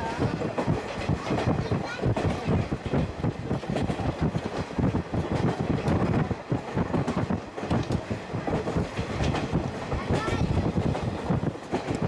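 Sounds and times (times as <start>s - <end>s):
train coach rumbling and rattling: 0.0s - 12.0s.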